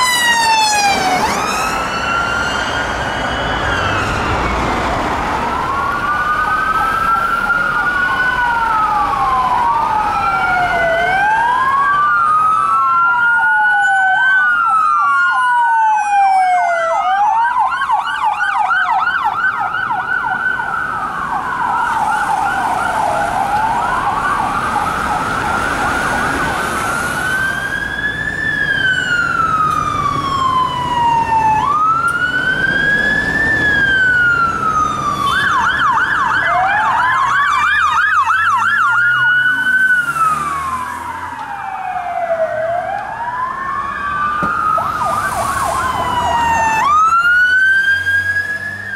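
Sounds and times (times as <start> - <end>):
sirens wailing and yelping: 0.0 - 48.9
traffic noise: 0.0 - 48.9.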